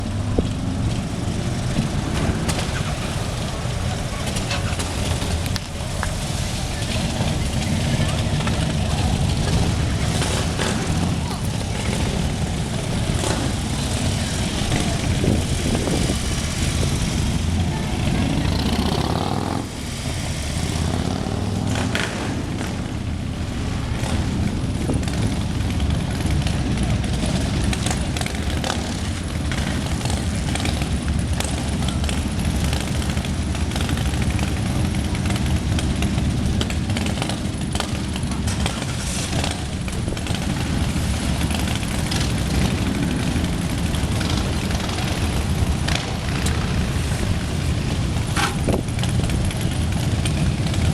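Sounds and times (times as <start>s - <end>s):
group of motorcycles riding past: 0.0s - 50.9s.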